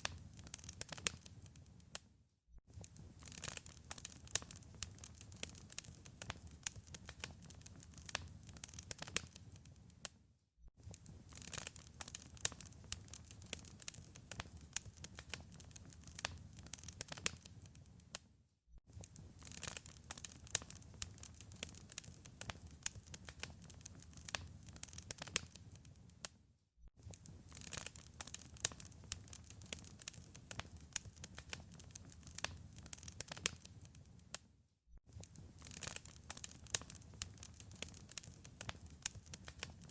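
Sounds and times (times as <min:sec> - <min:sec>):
wood fire crackling: 0:00.0 - 0:02.0, 0:02.7 - 0:10.1, 0:10.8 - 0:18.2, 0:18.9 - 0:26.3, 0:27.0 - 0:34.4, 0:35.1 - 0:39.9.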